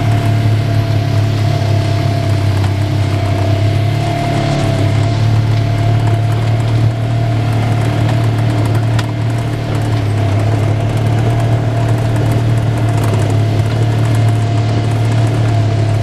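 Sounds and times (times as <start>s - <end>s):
utv engine droning: 0.0s - 16.0s.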